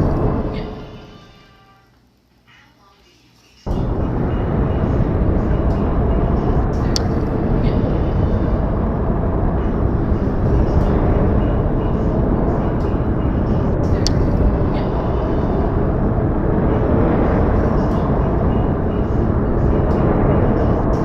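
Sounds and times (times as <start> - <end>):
outdoor winter ambience: 3.6 - 21.0.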